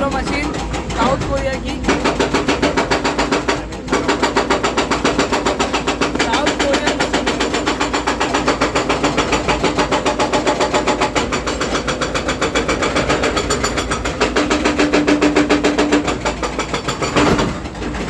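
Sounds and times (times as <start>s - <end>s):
excavator engine running: 0.0s - 18.0s
hydraulic hammer pounding: 0.0s - 18.0s.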